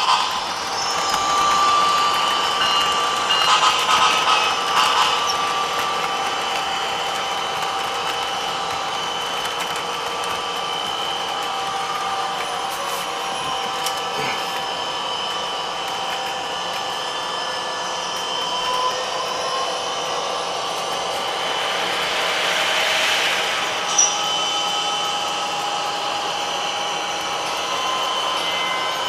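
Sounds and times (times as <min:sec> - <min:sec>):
electric motor whine: 0:00.0 - 0:29.0
wheels rolling on rails: 0:00.0 - 0:29.0.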